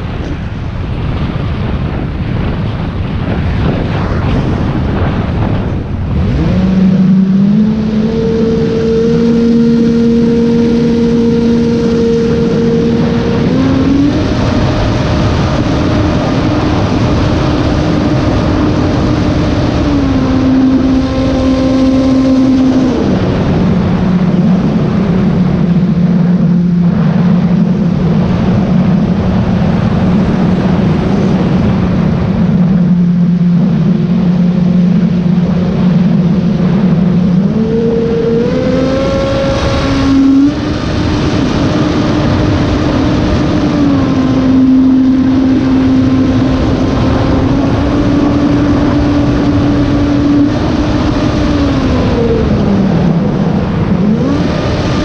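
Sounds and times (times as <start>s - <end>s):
electric motor and propeller whining: 0.0s - 55.0s
wind rushing: 0.0s - 55.0s.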